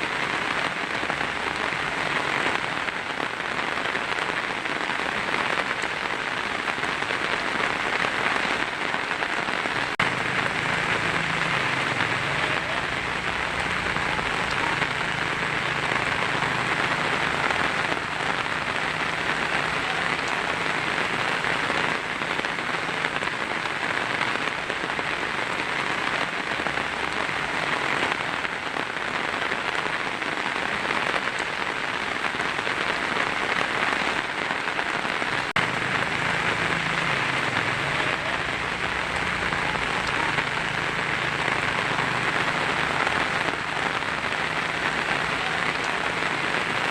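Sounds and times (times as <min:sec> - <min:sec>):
heavy rain on a tin roof: 0:00.0 - 0:46.9.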